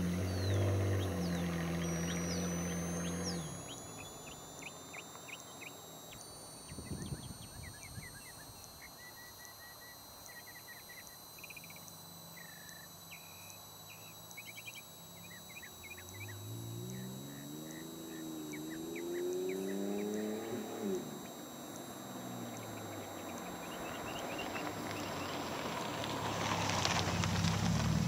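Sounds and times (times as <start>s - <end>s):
low droning rising in pitch: 0.0s - 8.8s, 13.8s - 27.6s
small birds chirping: 0.0s - 25.9s
faint high whine: 0.0s - 28.0s.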